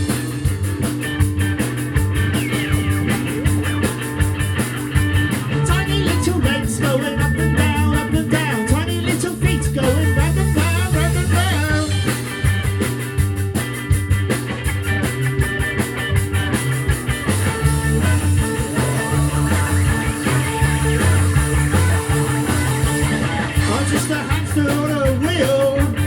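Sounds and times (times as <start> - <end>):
bass guitar: 0.0 - 26.0
drum kit beat: 0.0 - 26.0
electric guitars: 0.0 - 26.0.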